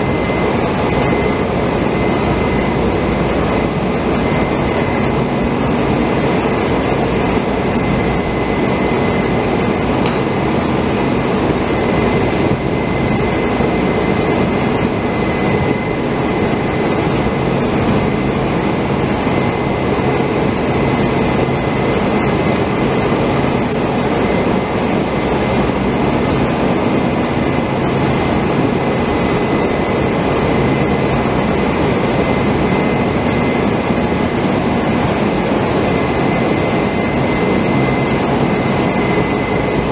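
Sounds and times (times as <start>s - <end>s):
machinery drone: 0.0s - 39.9s.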